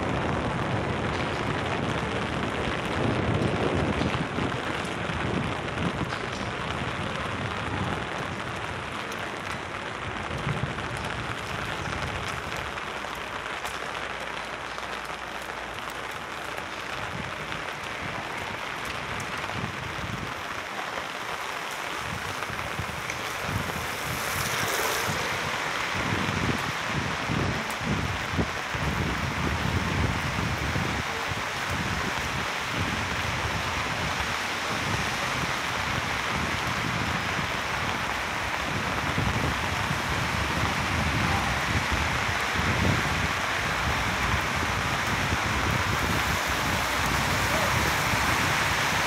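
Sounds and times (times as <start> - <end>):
rain on wet pavement: 0.0 - 49.0.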